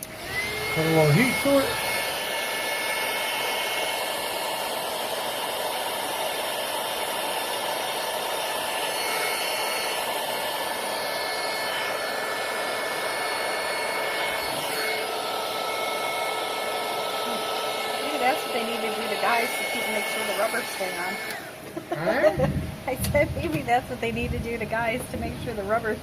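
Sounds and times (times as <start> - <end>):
heat gun blowing with whine: 0.0 - 26.0.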